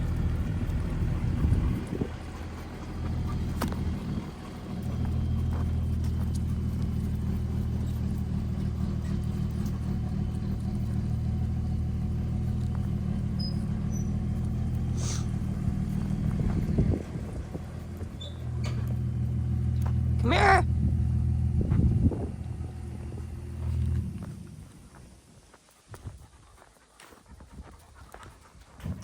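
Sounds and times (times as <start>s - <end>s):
truck engine running: 0.0s - 25.2s.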